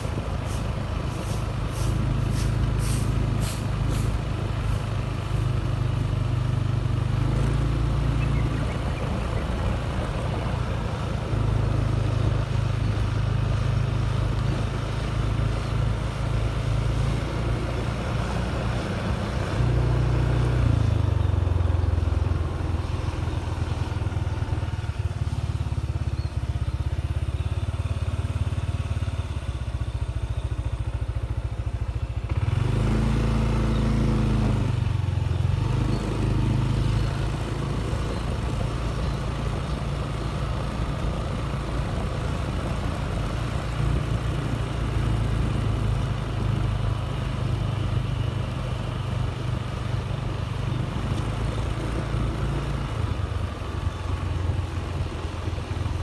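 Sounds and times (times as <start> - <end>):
motorcycle engine: 0.0 - 56.0
road noise: 0.0 - 56.0.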